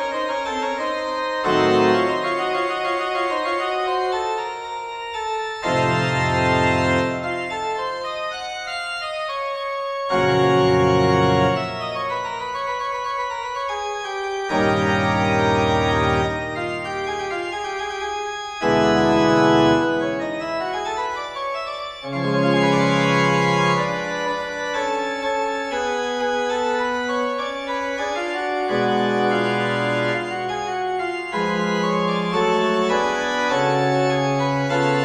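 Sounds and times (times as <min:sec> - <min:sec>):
organ playing slow chords: 0:00.0 - 0:35.0.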